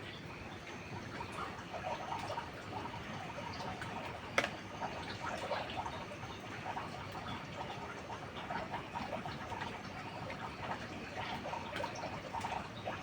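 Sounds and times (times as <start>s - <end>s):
rain dripping and pattering: 0.0s - 13.0s.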